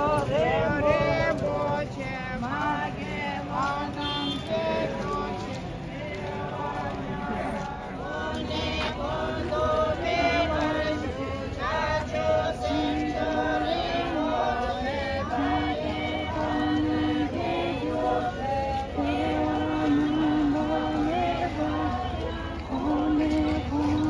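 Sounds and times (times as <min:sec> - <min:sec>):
group chanting in unison: 0:00.0 - 0:24.0.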